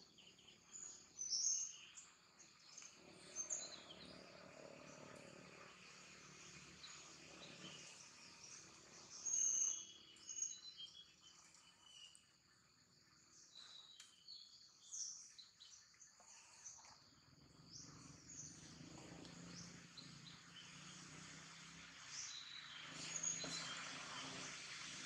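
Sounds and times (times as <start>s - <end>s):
light insect hiss: 0.1s - 25.0s.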